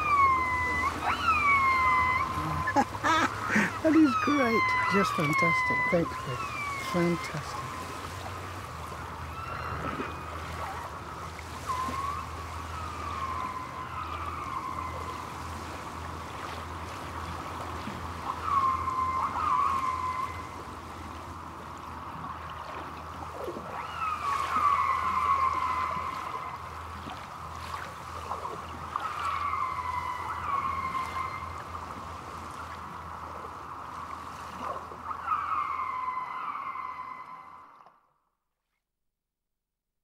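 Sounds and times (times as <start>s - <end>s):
killer whale calls underwater: 0.0s - 38.1s
underwater water noise: 0.0s - 38.8s.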